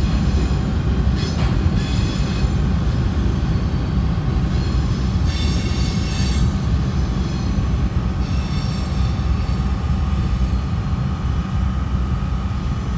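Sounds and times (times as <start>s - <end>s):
train wheels squealing: 0.0s - 10.8s
train rumbling past: 0.0s - 12.9s.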